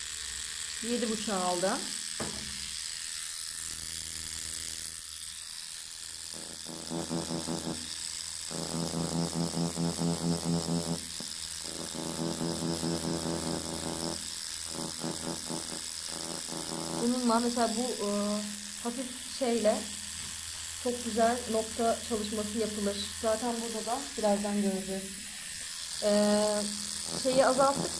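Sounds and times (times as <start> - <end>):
tattoo machine whirring: 0.0 - 27.9.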